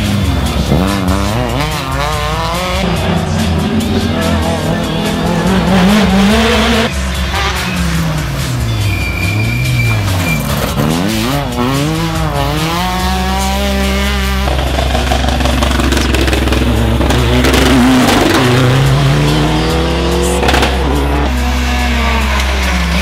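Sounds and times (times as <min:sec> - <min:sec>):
rally car engines revving: 0:00.0 - 0:23.0.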